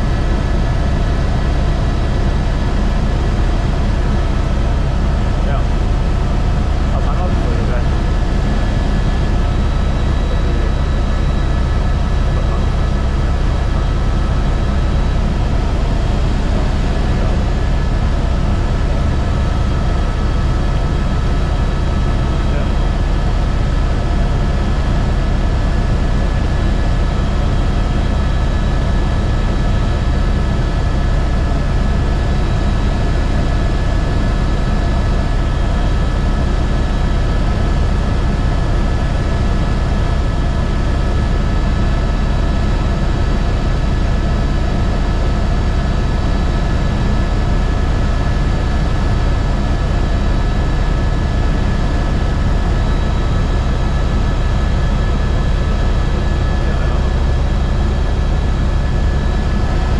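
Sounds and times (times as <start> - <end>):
helicopter rotor rumble: 0.0 - 59.9.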